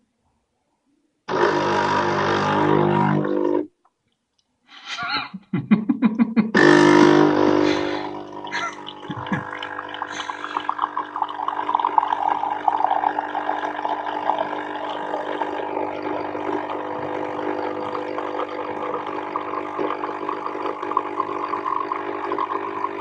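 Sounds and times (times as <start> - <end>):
coffee machine buzzing drone: 1.3 - 3.7, 6.6 - 23.0.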